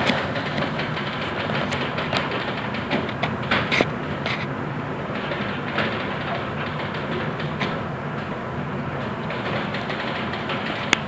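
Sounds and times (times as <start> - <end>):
clicks and rattles: 0.0 - 11.0
ship engine rumble and hum: 0.0 - 11.0.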